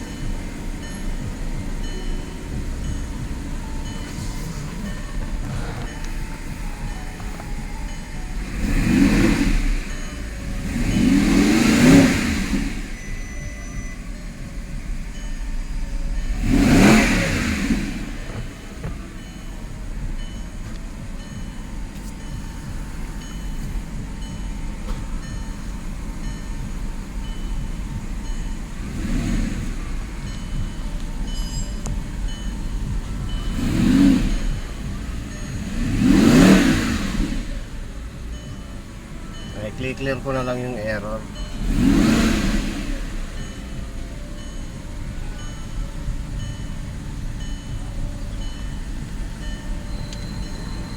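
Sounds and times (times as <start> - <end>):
sports car engine revving: 0.0 - 50.9.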